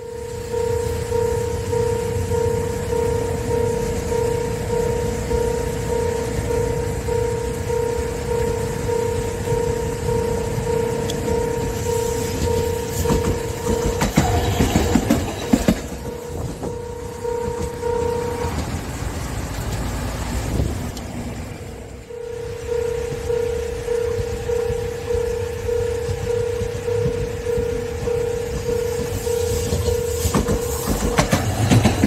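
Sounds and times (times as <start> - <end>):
level crossing alarm pulsing: 0.0 - 20.2, 21.6 - 32.0
tram wheels clattering on rails: 0.0 - 32.0.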